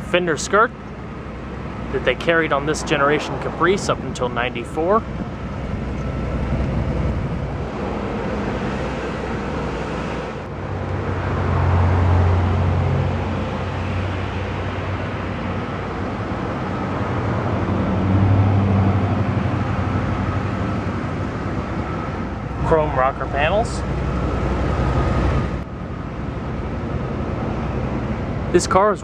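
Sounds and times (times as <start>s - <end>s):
low vehicle rumble: 0.0s - 29.0s.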